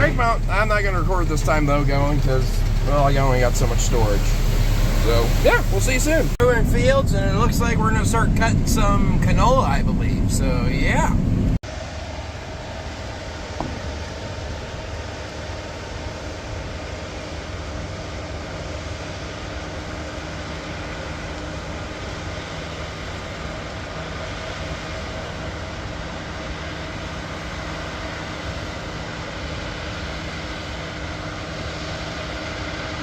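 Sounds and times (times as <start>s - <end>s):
farm machinery engine drone: 0.0s - 33.0s.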